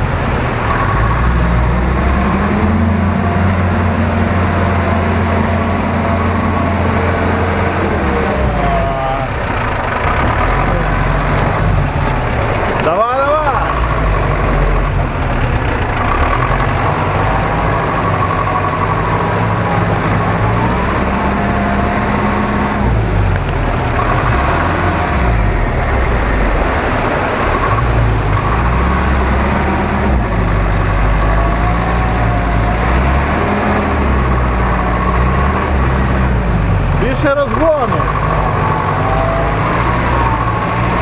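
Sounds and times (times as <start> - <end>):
truck engine working hard: 0.0 - 41.0.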